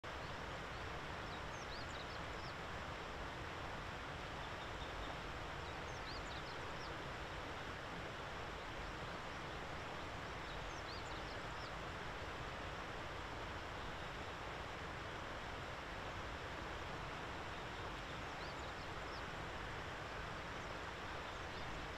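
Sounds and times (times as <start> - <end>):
outdoor background hiss: 0.0 - 21.9.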